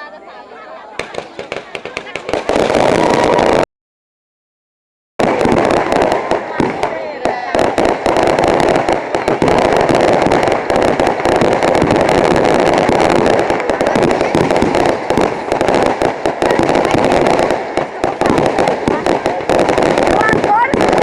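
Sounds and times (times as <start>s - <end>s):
fireworks crackling: 0.8s - 3.7s, 5.2s - 21.0s.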